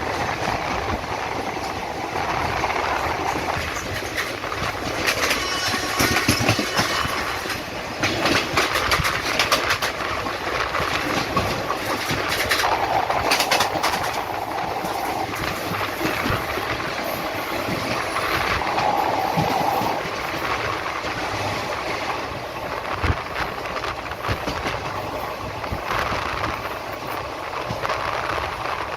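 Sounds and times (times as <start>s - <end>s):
passenger train rumbling on track: 0.0s - 28.9s
wheels clicking on rails: 0.0s - 28.9s.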